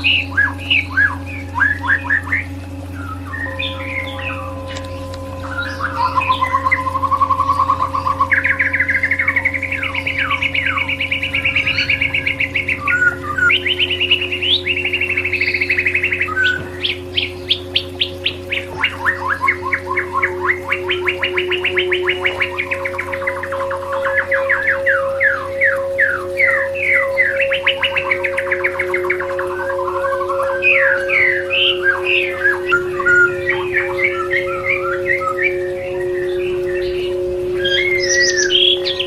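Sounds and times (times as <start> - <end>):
bird singing fast trills: 0.0 - 39.0
steady low hum: 0.0 - 39.0.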